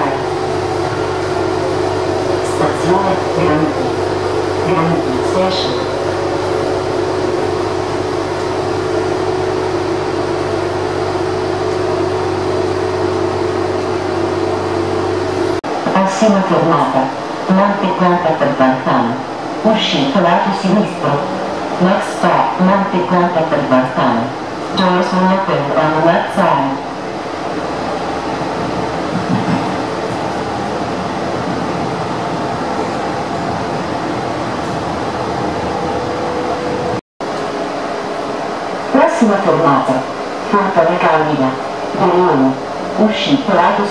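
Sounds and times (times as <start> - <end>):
constant hum: 0.0 - 43.9
metro train rumbling on track: 0.0 - 43.9.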